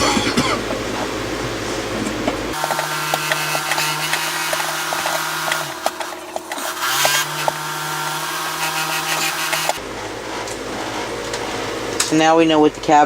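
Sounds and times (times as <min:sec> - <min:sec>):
power tool motor running: 0:00.0 - 0:12.4.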